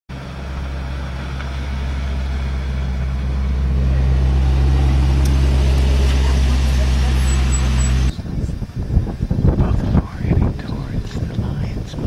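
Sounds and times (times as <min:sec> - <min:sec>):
vehicle engine humming: 0:00.1 - 0:12.0.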